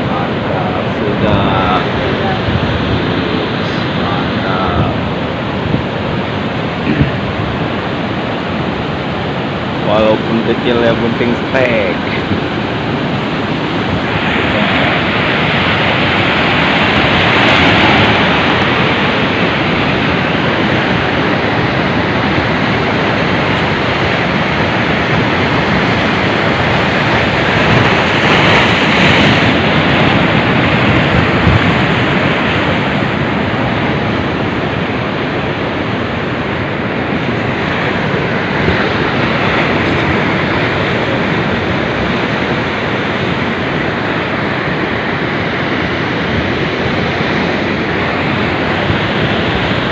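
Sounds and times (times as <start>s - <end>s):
sea surf washing on breakwater: 0.0s - 49.9s.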